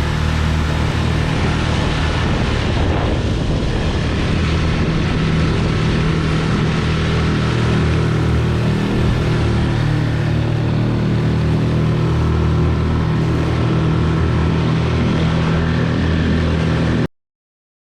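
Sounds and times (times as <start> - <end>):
outboard motor running: 0.0 - 17.1.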